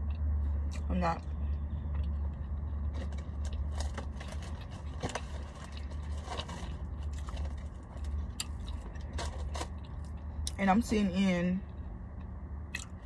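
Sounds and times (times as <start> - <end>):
person chewing crunchy food: 0.0 - 10.6
low hum inside a car: 0.0 - 13.0.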